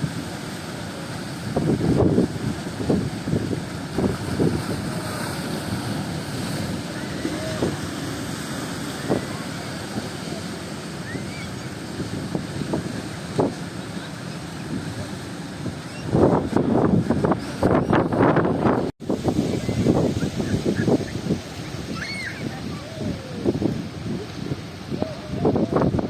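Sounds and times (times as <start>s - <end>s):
sea surf rushing: 0.0s - 26.0s
wind buffeting microphone: 0.0s - 26.0s.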